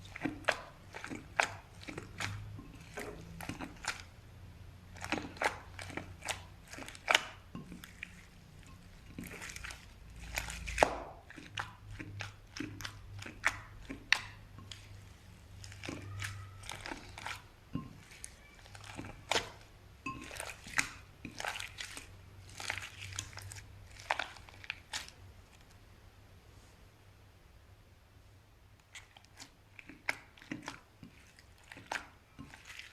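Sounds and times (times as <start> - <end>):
slime crackling and popping: 0.0 - 4.2, 4.8 - 25.2, 28.9 - 32.9.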